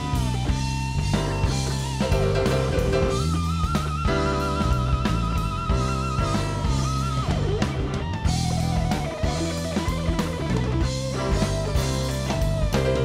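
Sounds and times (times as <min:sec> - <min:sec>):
bass guitar: 0:00.0 - 0:13.0
drum kit: 0:00.0 - 0:13.0
electric guitar lead with vibrato: 0:00.0 - 0:13.0.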